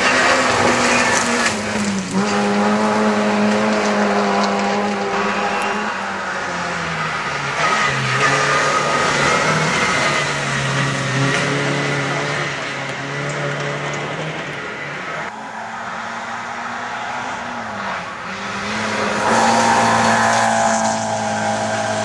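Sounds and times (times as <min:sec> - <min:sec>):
tyre and road noise: 0:00.0 - 0:22.0.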